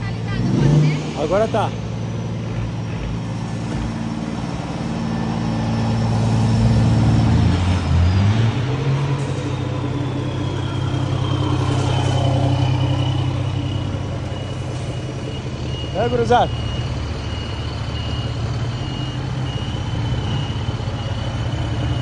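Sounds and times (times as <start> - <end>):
diesel truck engine pulling away: 0.0 - 22.0.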